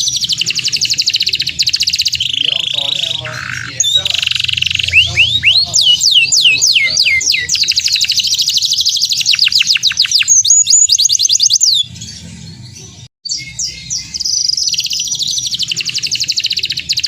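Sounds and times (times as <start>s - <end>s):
canary trilling song: 0.0s - 17.0s.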